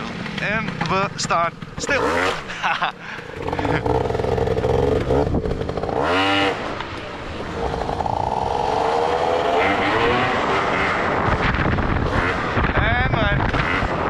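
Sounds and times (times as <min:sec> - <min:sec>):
scooter engine revving: 0:00.0 - 0:12.6, 0:13.4 - 0:14.0.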